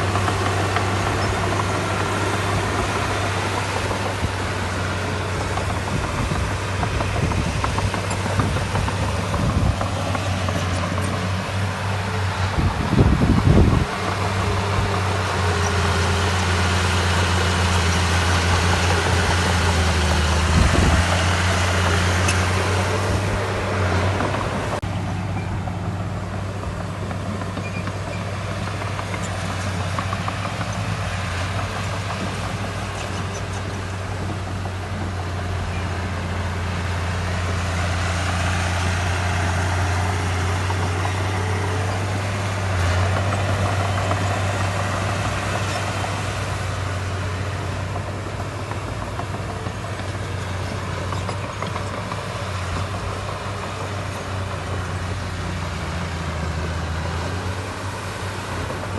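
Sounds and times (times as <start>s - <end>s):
diesel engine running steadily: 0.0s - 58.9s.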